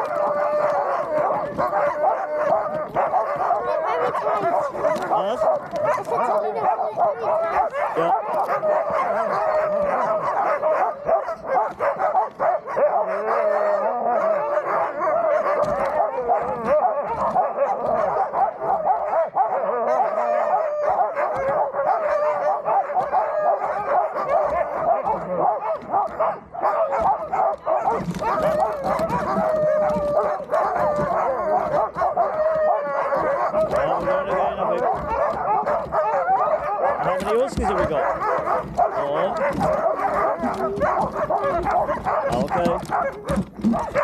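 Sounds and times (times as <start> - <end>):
huskies howling and yelping: 0.0 - 44.0.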